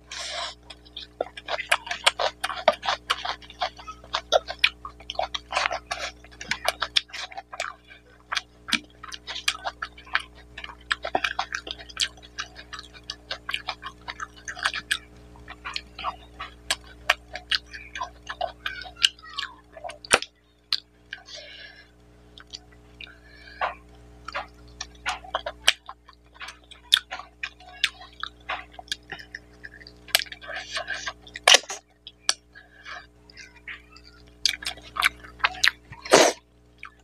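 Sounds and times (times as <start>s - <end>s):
chewing with wet lip smacks: 0.5s - 21.3s, 22.3s - 36.2s.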